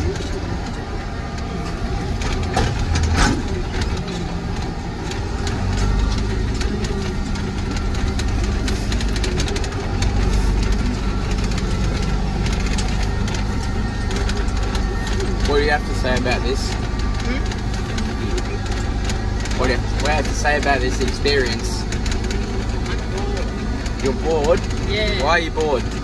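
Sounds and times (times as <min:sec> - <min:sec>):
cab and loader rattling: 0:00.0 - 0:26.0
tractor engine running: 0:00.0 - 0:26.0.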